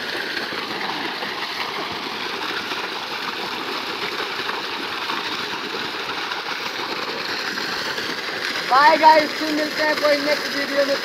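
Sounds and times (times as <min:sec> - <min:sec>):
water gushing and splashing on ground: 0:00.0 - 0:11.0.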